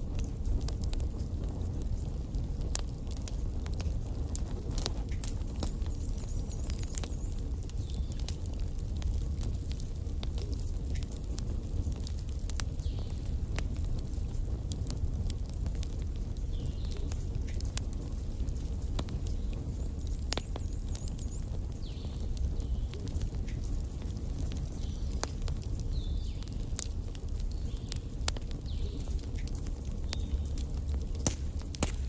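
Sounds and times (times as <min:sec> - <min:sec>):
burning logs crackling and popping: 0:00.0 - 0:32.0
low rumble of flames: 0:00.0 - 0:32.0.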